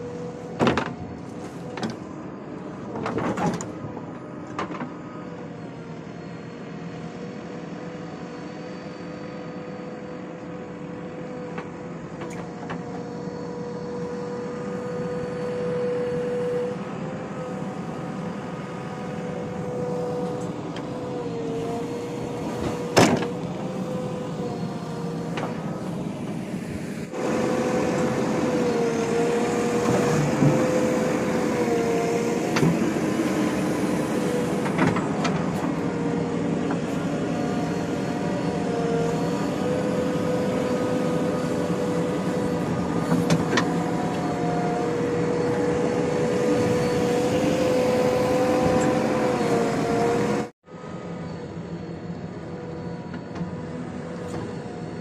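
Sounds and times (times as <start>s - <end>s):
diesel engine droning under load: 0.0s - 55.0s.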